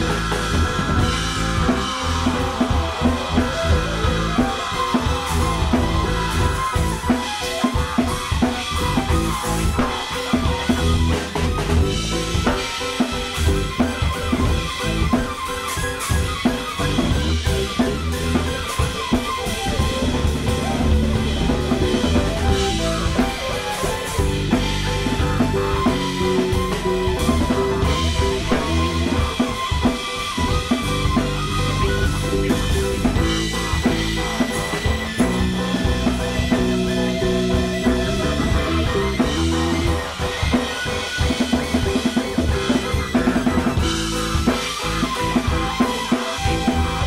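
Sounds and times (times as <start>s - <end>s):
falling pitch sweeps: 0.0s - 47.0s
live band music: 0.0s - 47.0s.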